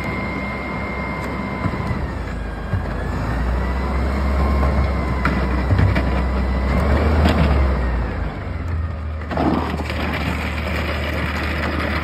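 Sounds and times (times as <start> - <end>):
faint engine whine: 0.0 - 12.0.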